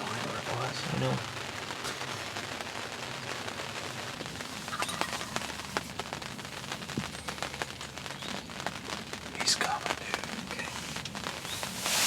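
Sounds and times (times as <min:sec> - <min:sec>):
raindrops ticking close by: 0:00.0 - 0:12.0
steady rain: 0:00.0 - 0:12.0.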